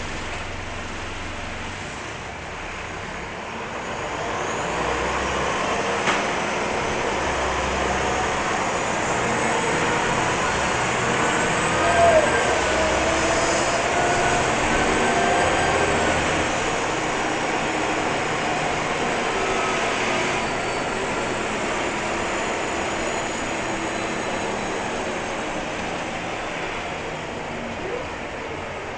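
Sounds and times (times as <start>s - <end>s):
bus engine running: 0.0s - 28.9s.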